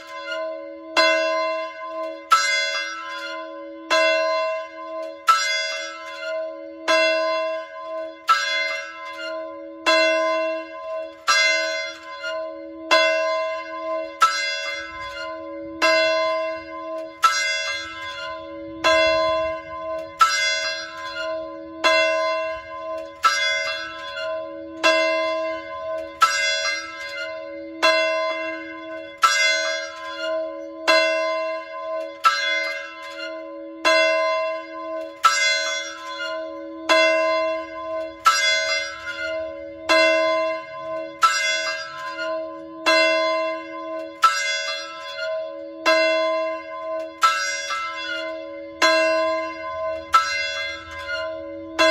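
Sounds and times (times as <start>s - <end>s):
fire alarm bell ringing: 0.0s - 51.9s.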